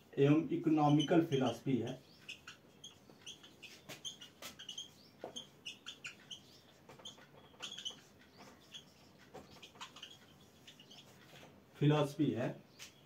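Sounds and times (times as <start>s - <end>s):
marker squeaking on whiteboard: 0.6s - 11.5s.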